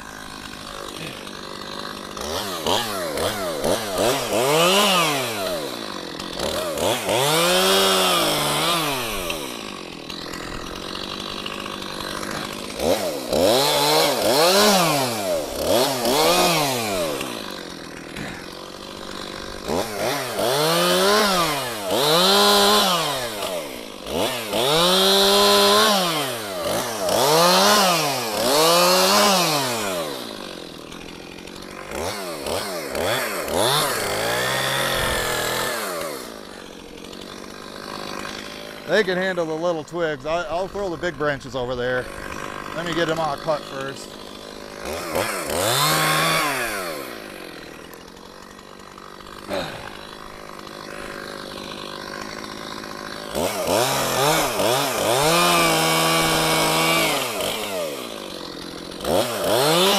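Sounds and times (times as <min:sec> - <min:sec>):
chainsaw cutting and revving: 0:00.0 - 0:59.9.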